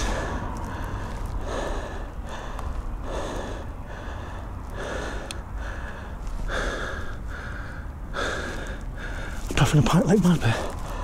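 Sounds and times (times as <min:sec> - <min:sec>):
low rumble: 0:00.0 - 0:09.4
man panting: 0:00.0 - 0:09.4.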